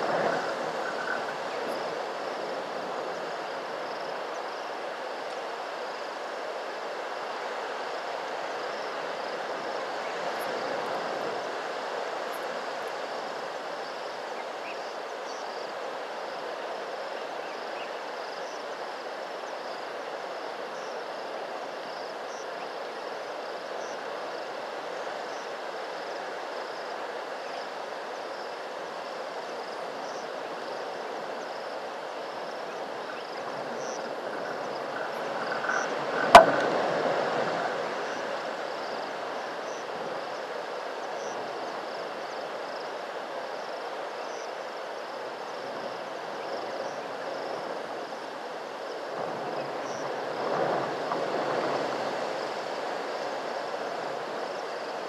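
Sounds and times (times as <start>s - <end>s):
faint insect chirps: 0.0s - 55.0s.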